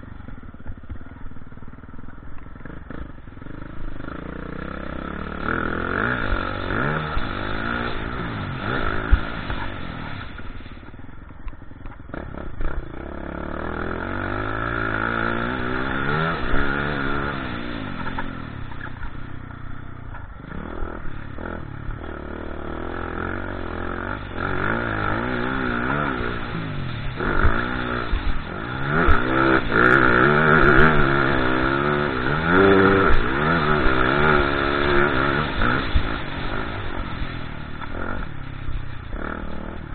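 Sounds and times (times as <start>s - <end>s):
dirt bike engine revving: 2.5s - 11.0s, 12.0s - 39.9s.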